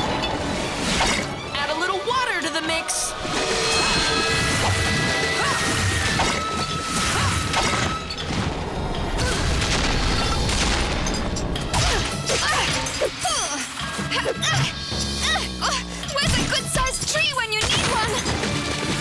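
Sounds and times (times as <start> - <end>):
cartoon background music: 0.0 - 8.5, 11.5 - 19.0.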